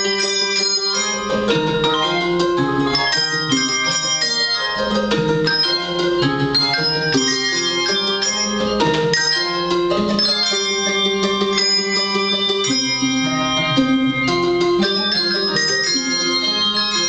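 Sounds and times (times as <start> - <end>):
handbell choir playing: 0.0 - 17.0.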